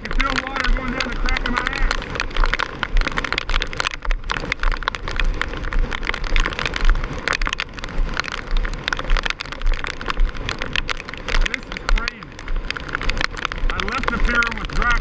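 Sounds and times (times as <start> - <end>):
heavy rain pelting microphone: 0.0 - 15.0
wind gusts buffeting microphone: 0.0 - 15.0.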